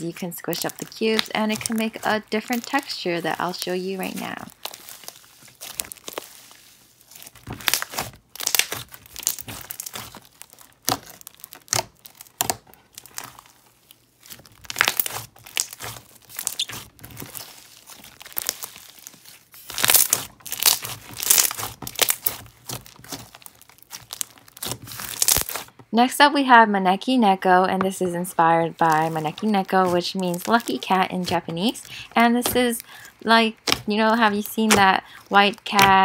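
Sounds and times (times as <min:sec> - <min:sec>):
hands squishing slime: 0:00.0 - 0:25.7, 0:28.6 - 0:36.0.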